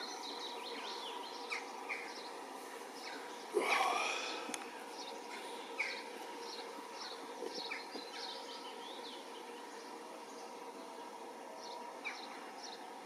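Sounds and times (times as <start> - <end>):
birds singing: 0.0 - 13.0
faint steady hum: 0.0 - 13.0.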